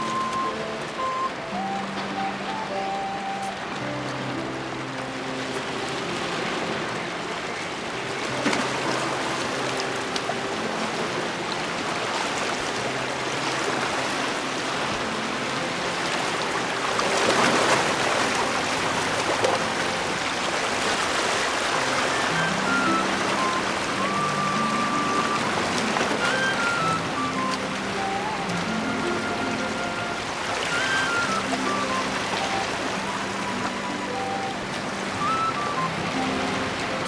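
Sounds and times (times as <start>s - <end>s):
faint background music: 0.0s - 37.0s
rushing water: 0.0s - 37.0s.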